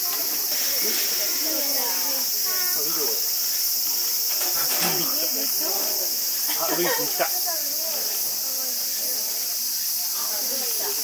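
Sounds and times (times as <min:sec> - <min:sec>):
people talking: 0:00.0 - 0:03.3, 0:03.9 - 0:11.0
cicada chorus: 0:00.0 - 0:11.0.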